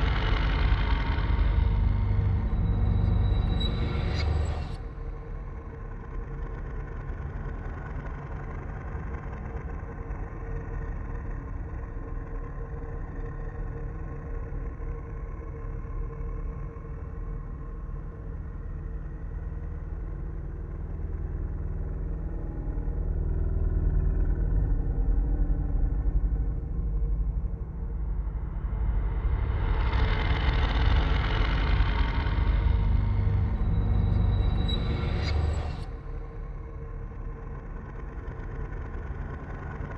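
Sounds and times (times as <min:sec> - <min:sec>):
low ambient drone: 0:00.0 - 0:39.9.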